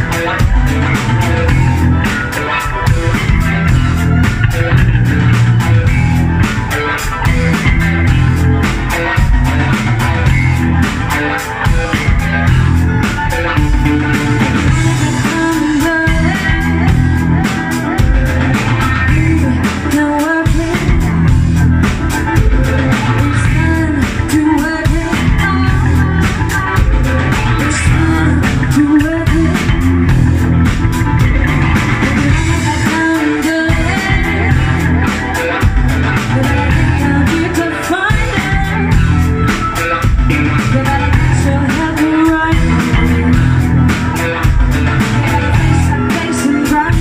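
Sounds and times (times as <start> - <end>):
drum beat: 0.0 - 47.0
electric bass guitar: 0.0 - 47.0
keyboards: 0.0 - 47.0
woman singing: 0.0 - 47.0.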